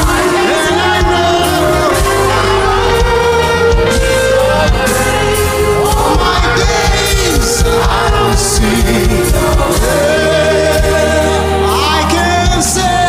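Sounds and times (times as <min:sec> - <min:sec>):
choir singing gospel: 0:00.0 - 0:13.0
instrumental backing: 0:00.0 - 0:13.0.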